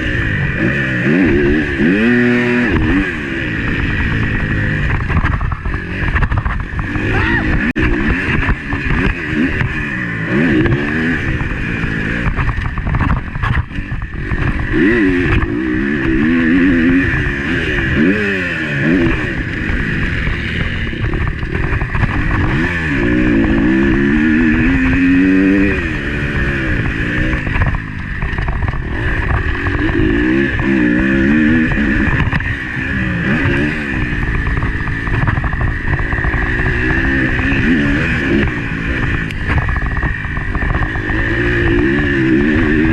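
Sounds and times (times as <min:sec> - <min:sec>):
motocross bike engine revving: 0:00.0 - 0:42.9
steady rushing noise: 0:00.0 - 0:42.9.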